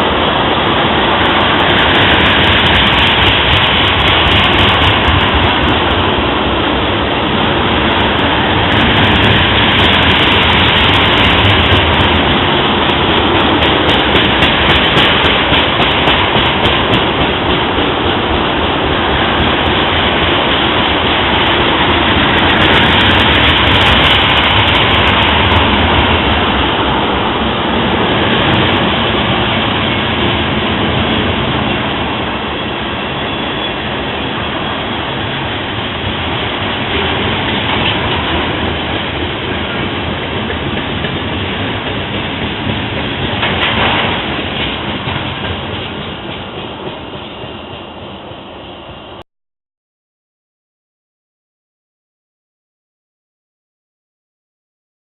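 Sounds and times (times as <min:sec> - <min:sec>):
freight train wheels rumbling: 0:00.0 - 0:49.2.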